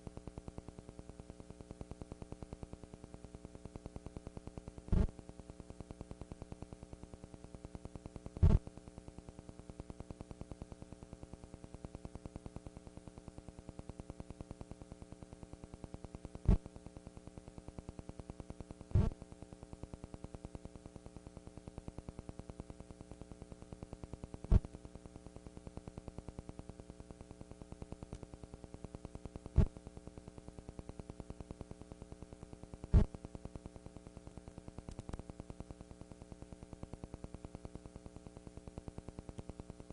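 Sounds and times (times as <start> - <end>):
electrical buzz with low hum: 0.0 - 39.9.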